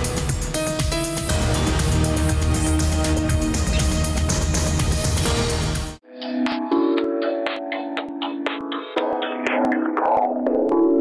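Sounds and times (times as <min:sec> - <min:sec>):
dense electronic music: 0:00.0 - 0:11.0
synthesizer music with ticking beat: 0:00.0 - 0:11.0.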